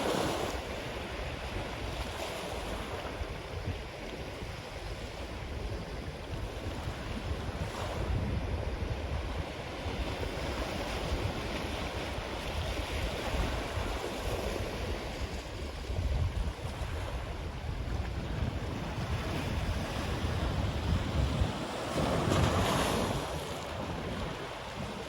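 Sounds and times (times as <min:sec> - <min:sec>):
ocean surf washing on beach: 0:00.0 - 0:25.0
wind buffeting microphone: 0:00.0 - 0:25.0.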